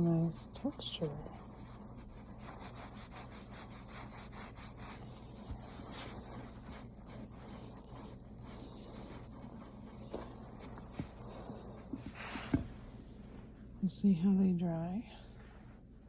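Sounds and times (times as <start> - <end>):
low steady hum: 0.0 - 16.0
paintbrush scrubbing and dabbing: 0.0 - 16.0.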